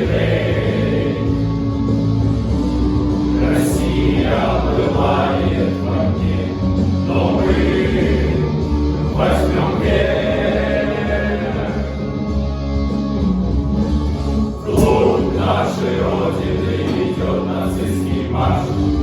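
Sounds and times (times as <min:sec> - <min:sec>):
men's choir singing: 0:00.0 - 0:02.0, 0:03.2 - 0:12.3, 0:14.6 - 0:19.0
steady bass accompaniment: 0:00.0 - 0:19.0.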